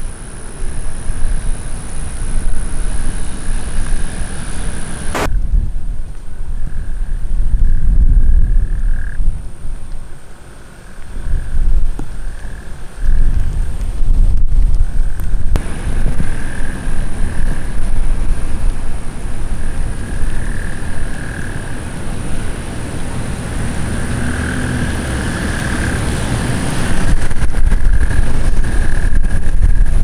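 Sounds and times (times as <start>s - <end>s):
frogs calling: 0.0s - 5.4s, 6.3s - 9.3s, 10.3s - 13.5s, 14.9s - 30.0s
wind rumble on microphone: 0.0s - 30.0s.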